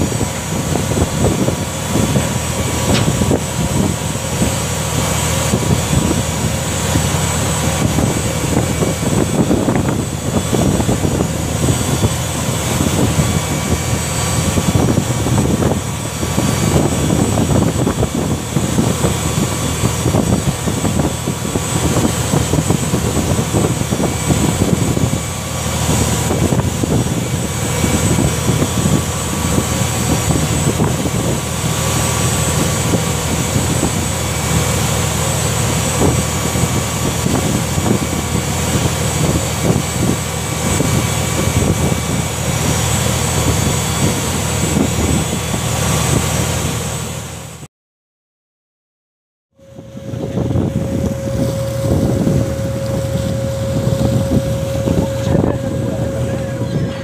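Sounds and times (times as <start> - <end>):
boat engine droning: 0.0 - 47.7, 49.6 - 57.0.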